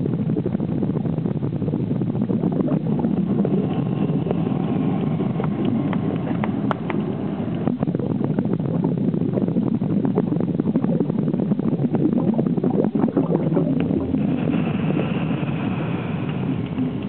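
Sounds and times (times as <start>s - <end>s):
faint high whine: 0.0s - 17.0s
underwater rumble: 0.0s - 17.0s
fine crackling clicks: 2.2s - 8.7s, 9.5s - 17.0s.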